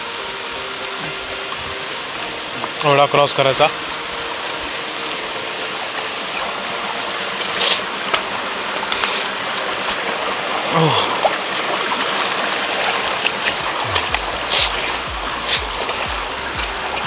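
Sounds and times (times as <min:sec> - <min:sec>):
stream water rushing: 0:00.0 - 0:17.0
water splashing: 0:00.0 - 0:17.0.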